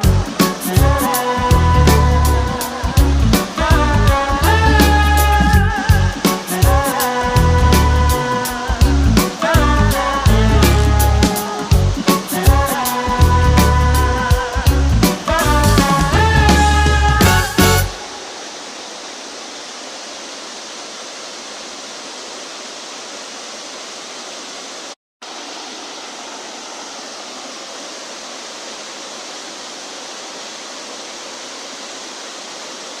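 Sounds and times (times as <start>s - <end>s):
waterfall roaring: 0.0s - 13.2s, 14.2s - 33.0s.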